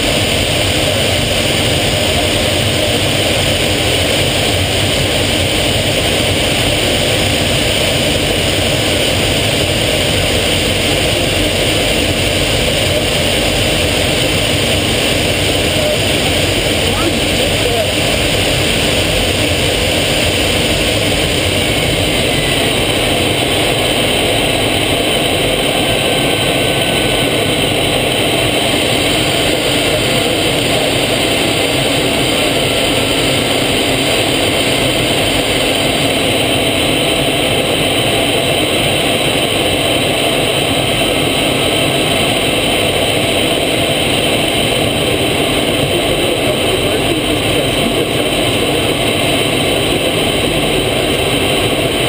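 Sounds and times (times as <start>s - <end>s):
faint steady whine: 0.0s - 52.0s
small aircraft engine and airflow: 0.0s - 52.0s.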